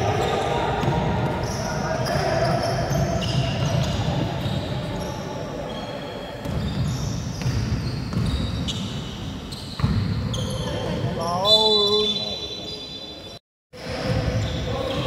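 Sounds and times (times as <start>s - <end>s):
voices echoing: 0.0s - 7.5s, 9.9s - 15.0s
sneaker squeaks: 0.0s - 13.4s, 14.0s - 15.0s.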